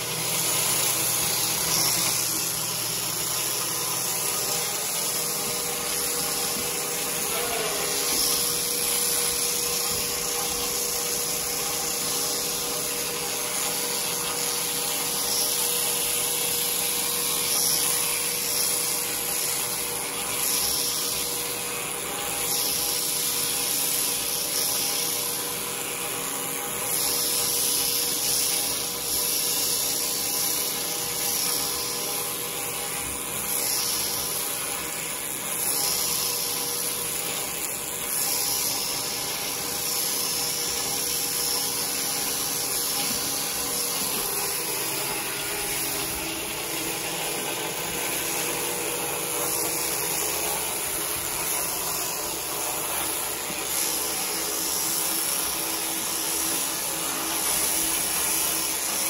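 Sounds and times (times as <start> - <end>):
electric shears motor hum: 0.0 - 59.0.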